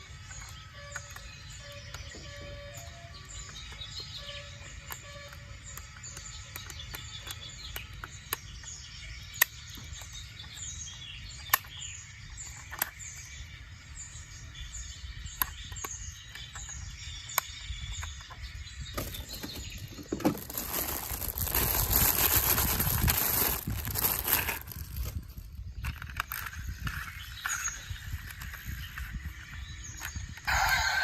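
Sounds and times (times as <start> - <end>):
bird chirping: 0.0 - 31.0.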